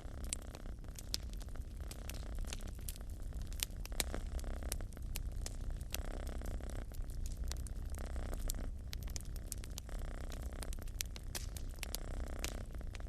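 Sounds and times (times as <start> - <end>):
cat purring: 0.0 - 13.0
wood fire crackling and popping: 0.0 - 13.0.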